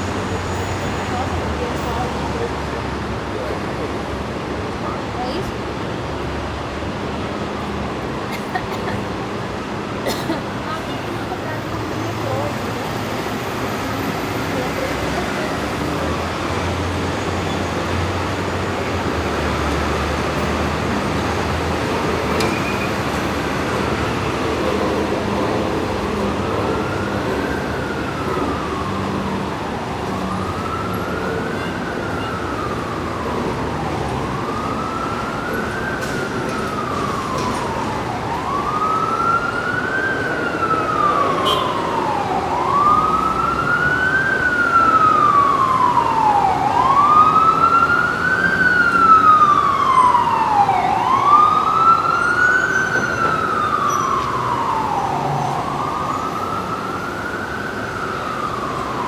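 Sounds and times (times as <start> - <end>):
city traffic noise: 0.0 - 59.0
emergency vehicle siren wailing: 0.0 - 59.0.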